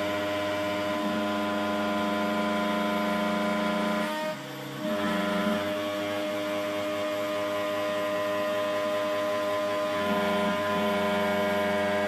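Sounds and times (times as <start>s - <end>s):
router machine whine: 0.0s - 12.0s.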